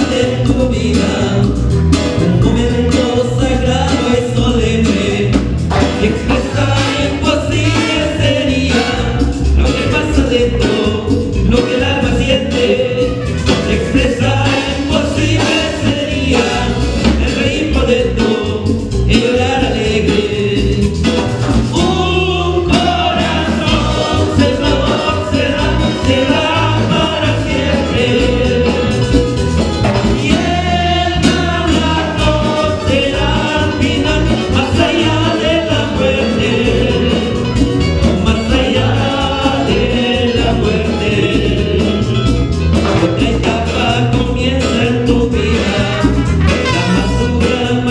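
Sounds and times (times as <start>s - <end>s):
band with bass: 0.0s - 47.9s
people singing worship music: 0.0s - 47.9s.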